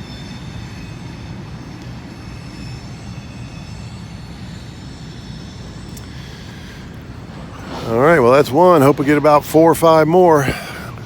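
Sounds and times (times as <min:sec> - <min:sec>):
high-pitched wheel squeal: 0:00.0 - 0:10.5
freight train rumbling: 0:00.0 - 0:11.0.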